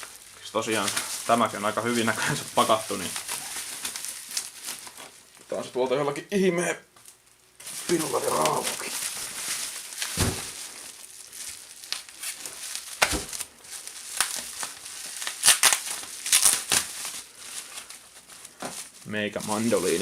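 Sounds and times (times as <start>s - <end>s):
packaging crinkling and rustling: 0.0s - 5.5s, 7.0s - 20.0s.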